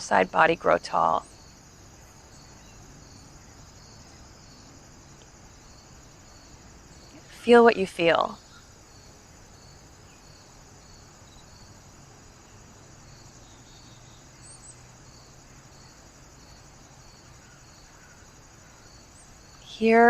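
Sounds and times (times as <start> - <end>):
insect trill: 0.0 - 20.0
soft insect chirp: 0.0 - 20.0.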